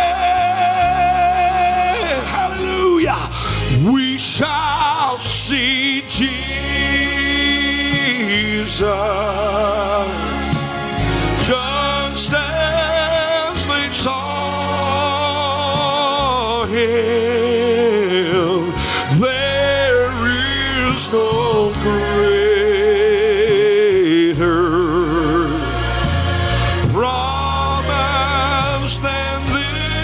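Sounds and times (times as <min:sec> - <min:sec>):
sustained accompaniment chords: 0:00.0 - 0:30.0.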